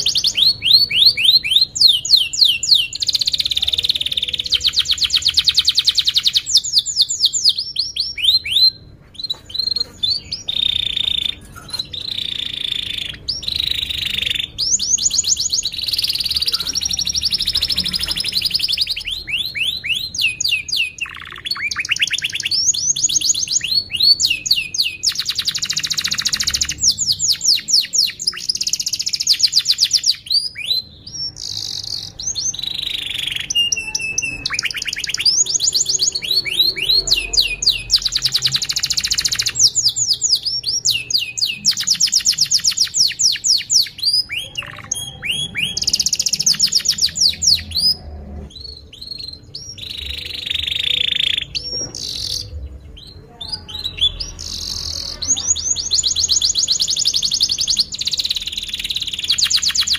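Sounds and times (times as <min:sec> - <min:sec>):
canary singing fast trills: 0:00.0 - 0:59.9.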